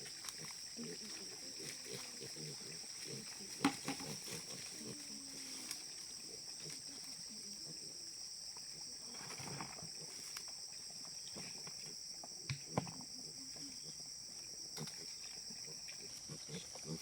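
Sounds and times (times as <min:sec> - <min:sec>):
insects droning: 0:00.0 - 0:17.0
rustles: 0:00.0 - 0:17.0.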